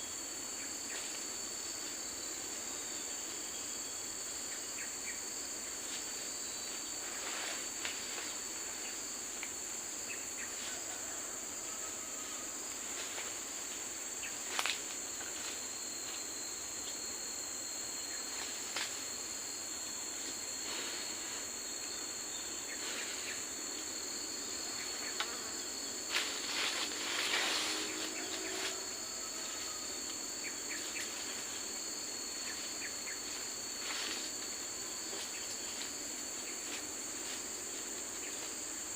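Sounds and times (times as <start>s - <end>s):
insects shrilling: 0.0s - 38.9s.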